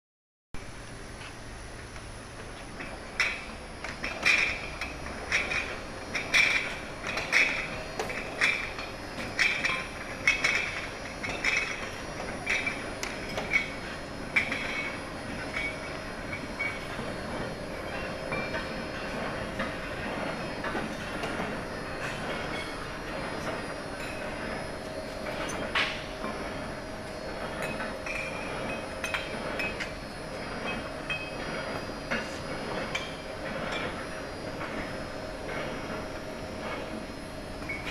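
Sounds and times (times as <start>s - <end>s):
bottle washing machine running: 2.4s - 37.9s.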